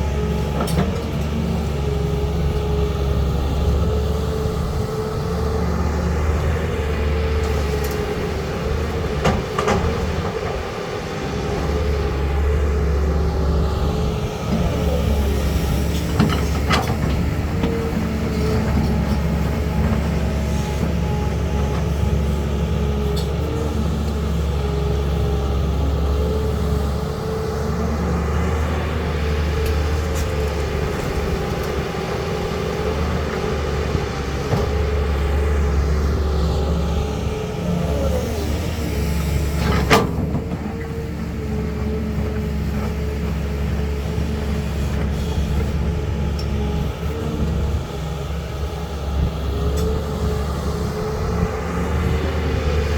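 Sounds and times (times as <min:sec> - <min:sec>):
excavator diesel engine: 0:00.0 - 0:52.9.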